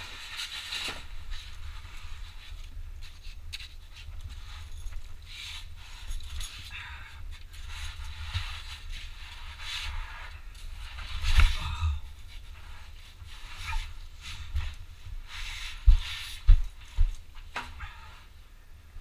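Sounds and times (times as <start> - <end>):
muffled rustling and scraping: 0.0 - 18.4.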